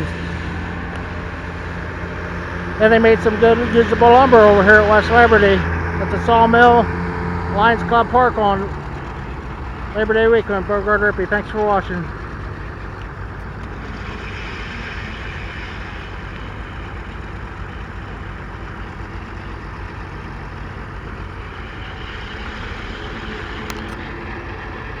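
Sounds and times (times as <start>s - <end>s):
engine droning steadily: 0.0s - 25.0s.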